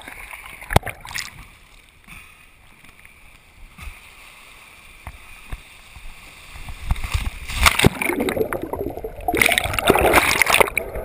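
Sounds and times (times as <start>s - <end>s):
water lapping and splashing: 0.0s - 11.0s.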